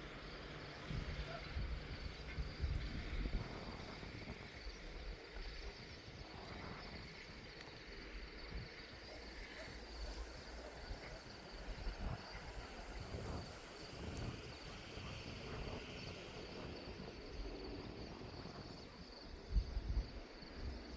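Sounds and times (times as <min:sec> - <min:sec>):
insects chirring: 0:00.0 - 0:20.9
wind gusting on microphone: 0:00.8 - 0:07.4, 0:08.6 - 0:20.9.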